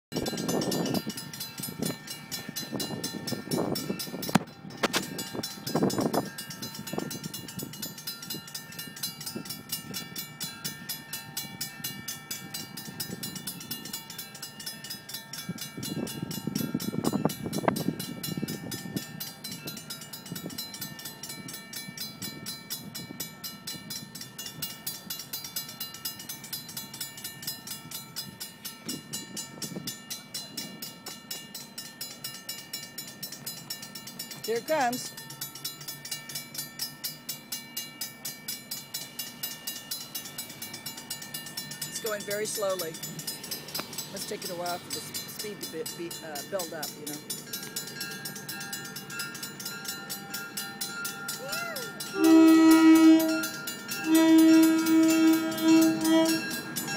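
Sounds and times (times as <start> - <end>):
train ringing pulses: 0.1 - 56.9
train rumbling: 0.1 - 56.9.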